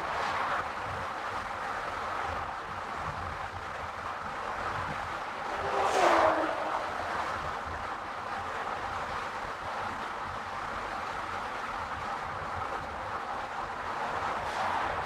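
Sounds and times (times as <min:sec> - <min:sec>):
low engine rumble: 0:00.0 - 0:15.0
tyre and wind noise: 0:00.0 - 0:15.0.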